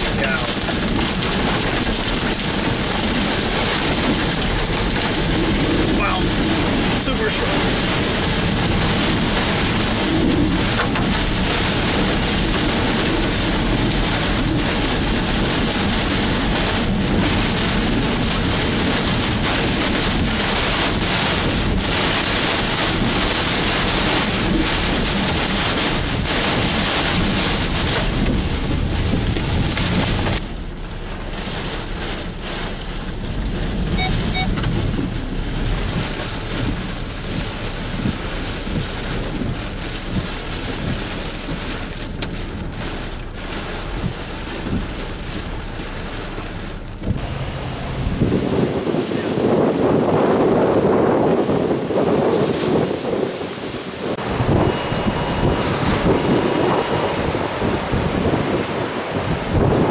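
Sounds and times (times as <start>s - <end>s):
heavy rain on car windshield: 0.0s - 59.9s.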